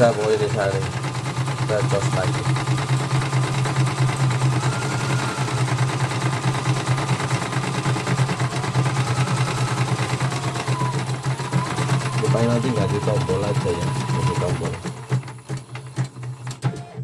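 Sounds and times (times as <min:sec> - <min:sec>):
sewing needle stitching rapidly: 0:00.0 - 0:16.7
motor hum: 0:00.0 - 0:17.0.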